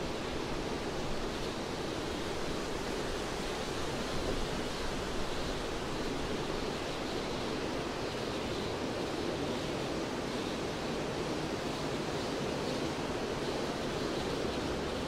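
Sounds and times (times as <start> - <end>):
wind through pine trees: 0.0 - 15.0.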